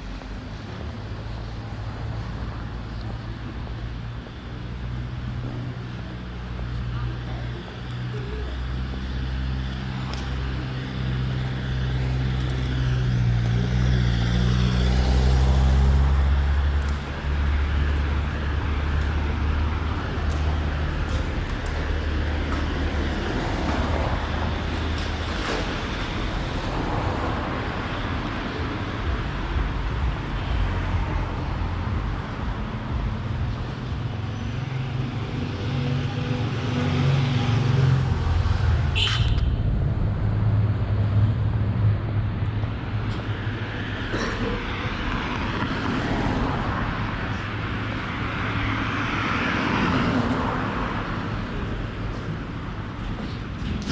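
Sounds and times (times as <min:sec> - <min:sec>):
street traffic passing: 0:00.0 - 0:53.9
vehicle engine humming: 0:00.0 - 0:53.9.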